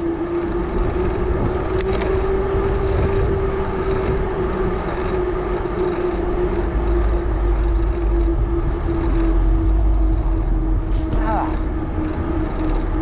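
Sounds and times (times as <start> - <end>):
bike tire hum on pavement: 0.0 - 13.0
wind rumble on microphone: 0.0 - 13.0.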